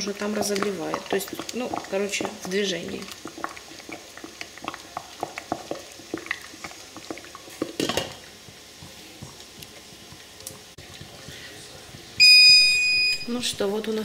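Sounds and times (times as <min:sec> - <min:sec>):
water boiling in a pot: 0:00.0 - 0:14.0.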